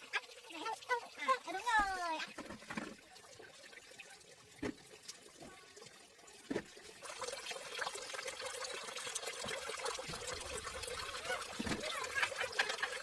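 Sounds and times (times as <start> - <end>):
water pouring and trickling: 0.0 - 13.0.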